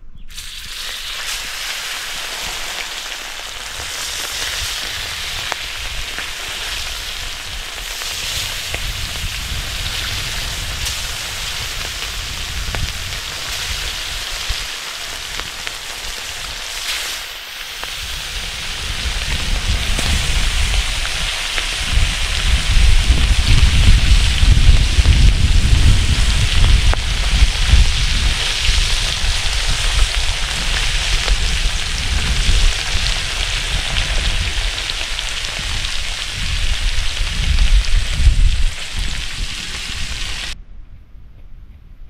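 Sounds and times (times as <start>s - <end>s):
fish sizzling and popping in oil: 0.3s - 40.6s
wind rumble on microphone: 3.6s - 17.0s, 17.8s - 42.0s.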